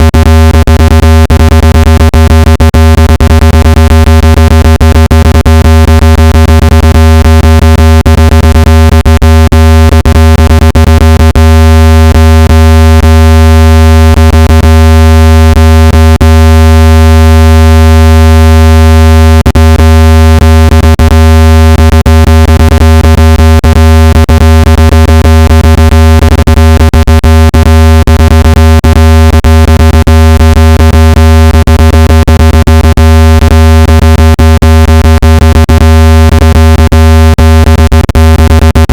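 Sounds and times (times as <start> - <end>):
low electronic buzz tone: 0.0 - 38.9.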